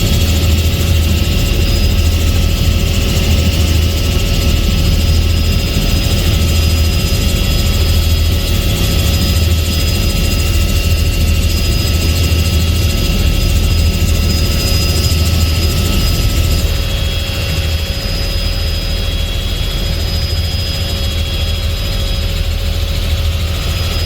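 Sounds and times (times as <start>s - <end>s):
helicopter rotor drone: 0.0s - 24.0s
high engine whine: 0.0s - 24.0s.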